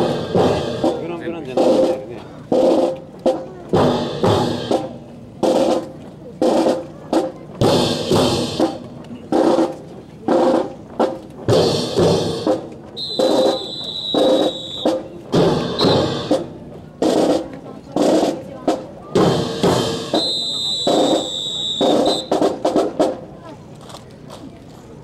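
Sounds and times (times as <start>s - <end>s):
drum and cymbal hits: 0.0s - 23.5s
marching band playing: 0.0s - 23.5s.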